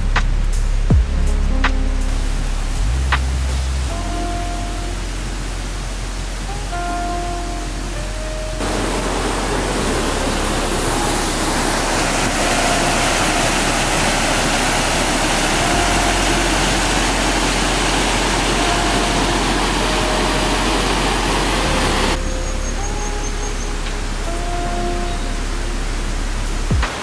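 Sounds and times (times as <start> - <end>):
waterfall rushing over rocks: 2.1 - 27.0.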